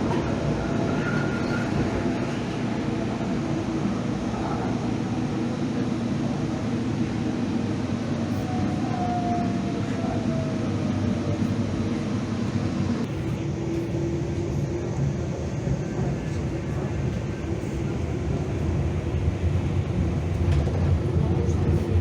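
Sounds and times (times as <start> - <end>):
moving train running noise: 0.0 - 22.0.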